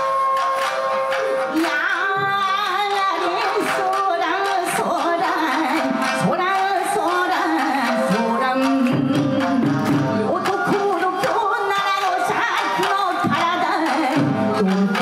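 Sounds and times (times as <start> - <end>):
shamisen plucked: 0.0 - 13.7
taiko drum: 0.0 - 15.0.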